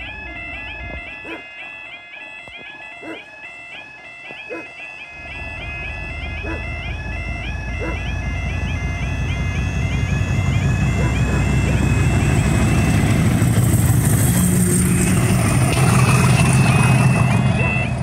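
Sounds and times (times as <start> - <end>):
diesel locomotive engine rumble: 0.0 - 18.0
level crossing warbling alarm: 0.0 - 18.0.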